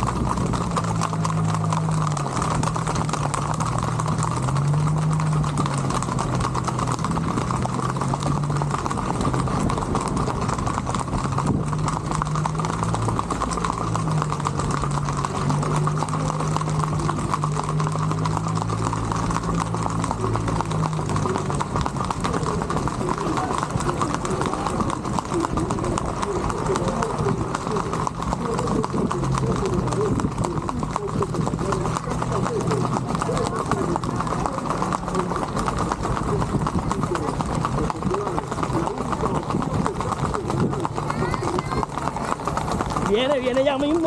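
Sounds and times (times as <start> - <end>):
hooves clip-clopping on asphalt: 0.0 - 44.0.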